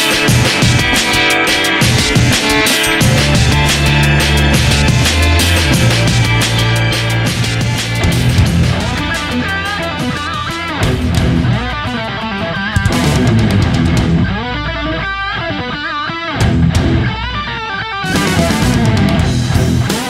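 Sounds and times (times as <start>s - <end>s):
electric guitar lead melody: 0.0s - 20.0s
rock music: 0.0s - 20.0s.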